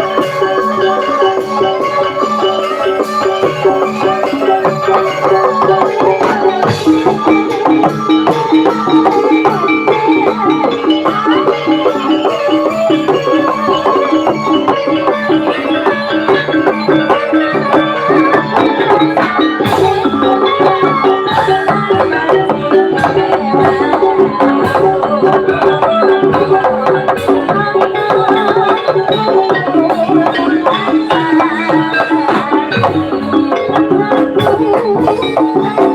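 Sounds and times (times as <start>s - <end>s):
drums: 0.0s - 35.9s
metallophones ringing: 0.0s - 35.9s.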